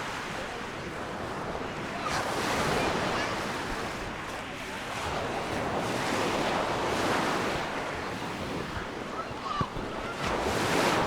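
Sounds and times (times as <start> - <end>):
surf washing on beach: 0.0 - 11.0
wind on microphone: 0.0 - 11.0.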